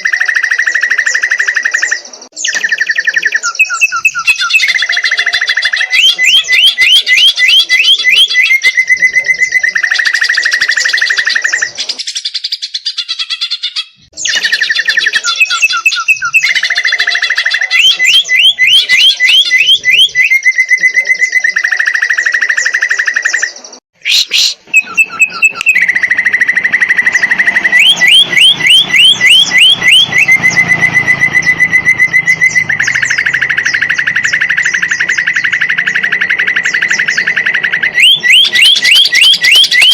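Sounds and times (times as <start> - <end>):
bird singing trills and chirps: 0.0 - 39.9.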